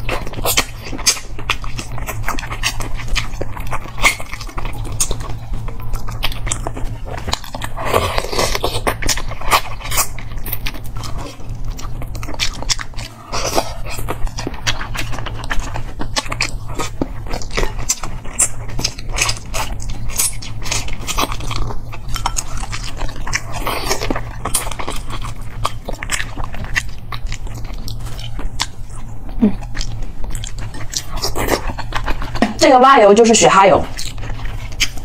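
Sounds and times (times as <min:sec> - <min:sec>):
close-miked chewing and smacking: 0:00.0 - 0:35.0
steady low hum: 0:00.0 - 0:35.0.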